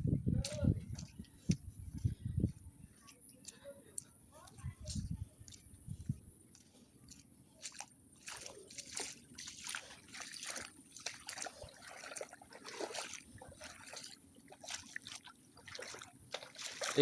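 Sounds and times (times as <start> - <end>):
footsteps splashing through floodwater: 0.4 - 17.0.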